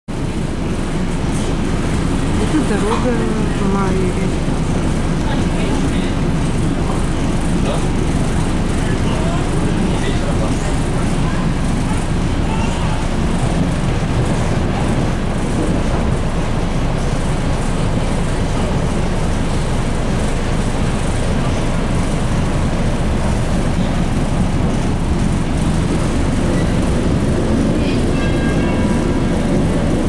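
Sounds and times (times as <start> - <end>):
train running rumble: 0.1 - 30.0.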